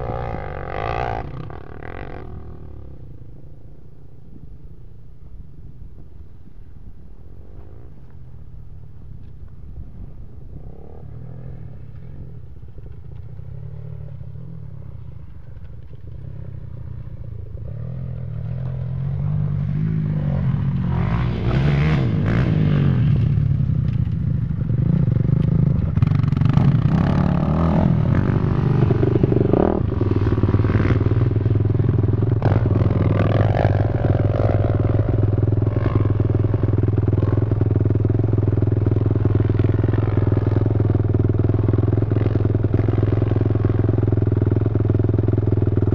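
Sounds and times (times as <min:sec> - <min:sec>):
dirt bike and quad engines revving: 0:00.0 - 0:03.7, 0:07.2 - 0:08.7, 0:09.7 - 0:45.9.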